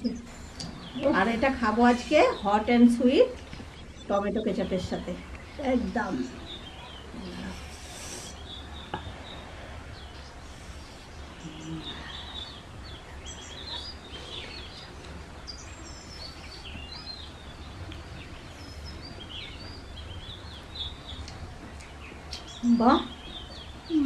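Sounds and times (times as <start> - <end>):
small birds chirping: 0.0 - 24.0
steady low hum: 0.0 - 24.0.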